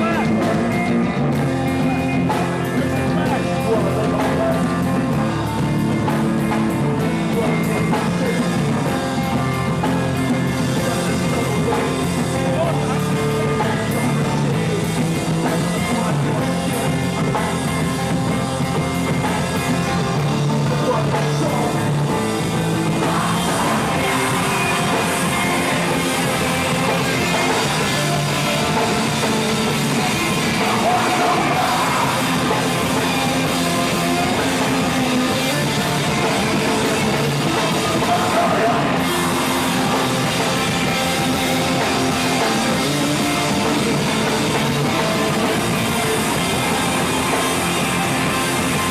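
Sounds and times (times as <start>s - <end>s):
person singing: 0.0s - 18.0s, 19.1s - 48.9s
live rock band playing: 0.0s - 48.9s.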